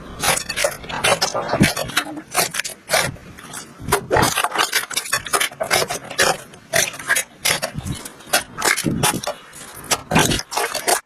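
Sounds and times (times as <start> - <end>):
slime squishing and crackling: 0.1 - 11.0.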